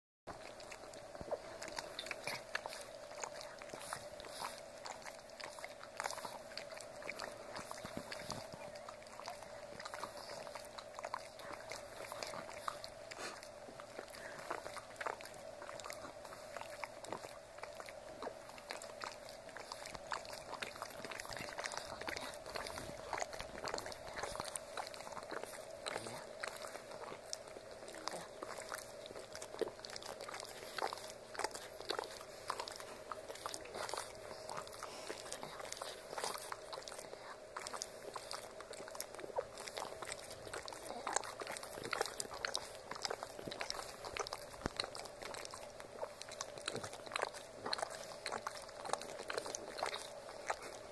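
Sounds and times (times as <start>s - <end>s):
dog licking and lapping: 0.3s - 50.9s
faint steady hum: 0.3s - 50.9s.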